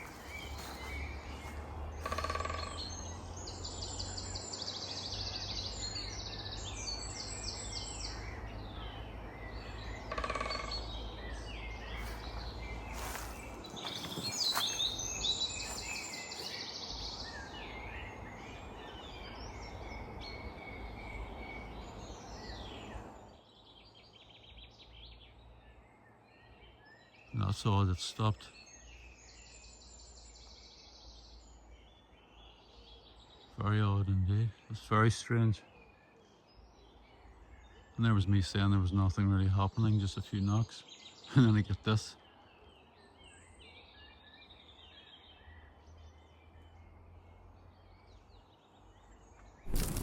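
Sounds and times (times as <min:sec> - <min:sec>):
songbirds trilling: 0:00.0 - 0:50.0.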